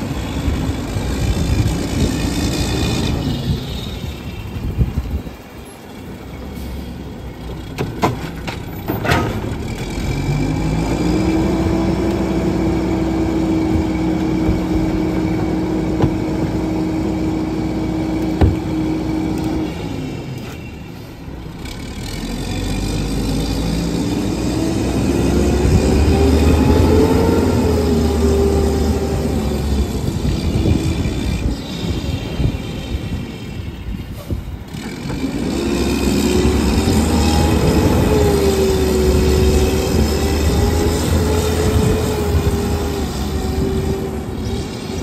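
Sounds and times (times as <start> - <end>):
garbage truck engine revving: 0.0 - 45.0.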